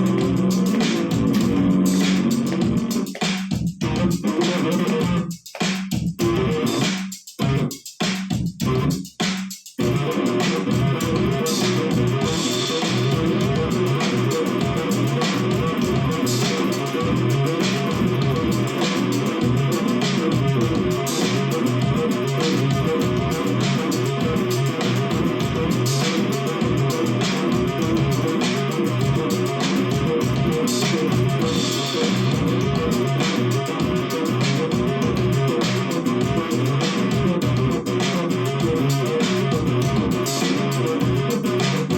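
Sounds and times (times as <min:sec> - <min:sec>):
electric bass riff: 0:00.0 - 0:05.4, 0:06.2 - 0:07.7, 0:08.6 - 0:09.0, 0:09.8 - 0:41.9.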